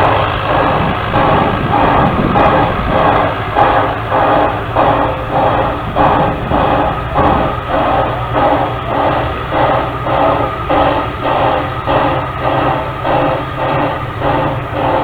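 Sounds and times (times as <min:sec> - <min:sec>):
steam locomotive chuffing: 0:00.0 - 0:15.0
train rumble: 0:00.0 - 0:15.0.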